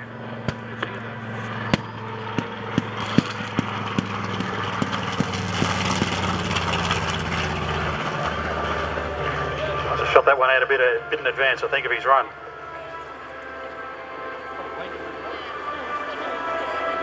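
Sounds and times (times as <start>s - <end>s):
aircraft radial engine droning: 0.0s - 17.0s.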